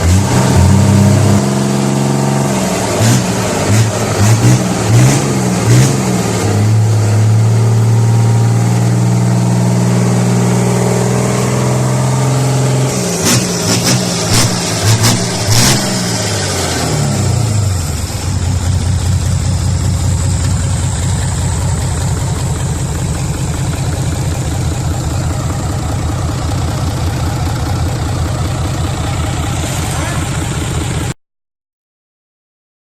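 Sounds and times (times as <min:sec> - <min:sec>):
diesel engine idling: 0:00.0 - 0:31.2.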